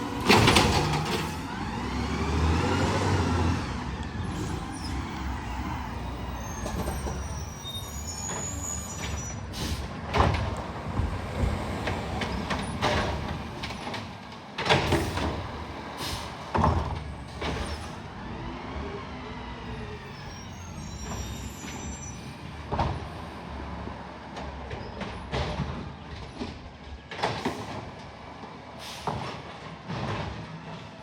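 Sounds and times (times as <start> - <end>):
garbage truck diesel rumble: 0.0 - 31.0.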